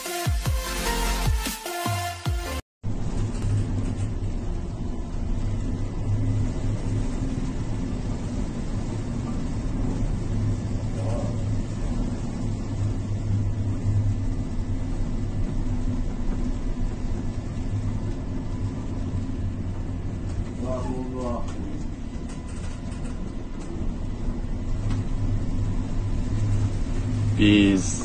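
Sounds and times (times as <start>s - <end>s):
ship engine rumble and hum: 2.8s - 28.0s.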